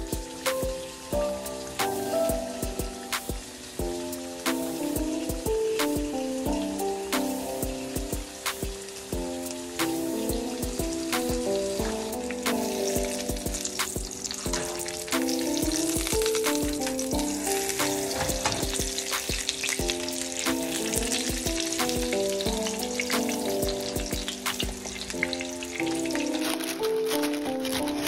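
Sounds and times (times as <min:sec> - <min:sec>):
background music: 0:00.0 - 0:28.0
oil sizzling and popping: 0:00.0 - 0:28.0.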